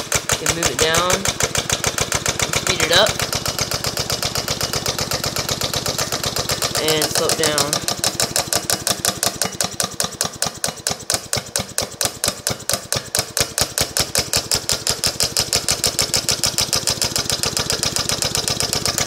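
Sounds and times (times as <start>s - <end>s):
air-powered engine chuffing: 0.0s - 19.0s.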